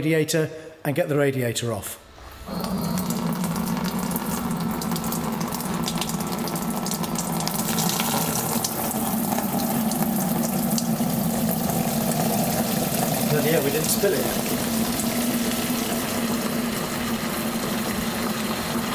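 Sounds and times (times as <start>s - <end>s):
water draining into plastic tub: 2.4s - 18.9s.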